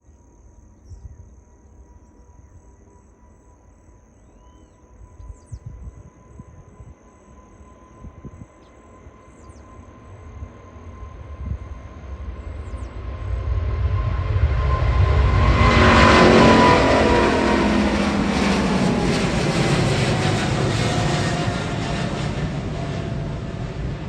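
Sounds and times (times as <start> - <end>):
faint high whine: 0.0 - 24.0
distant jet engine rumble: 4.6 - 24.0.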